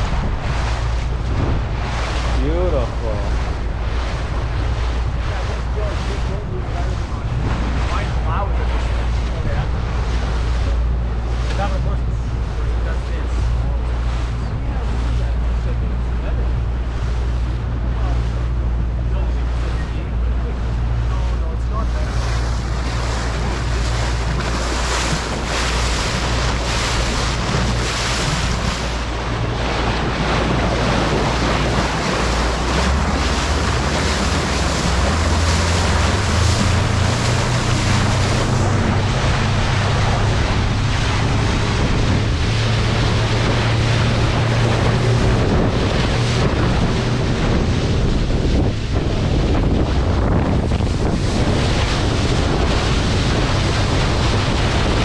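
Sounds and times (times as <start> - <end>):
boat engine drone: 0.0 - 55.0
water rushing along hull: 0.0 - 55.0
wind buffeting microphone: 0.0 - 55.0.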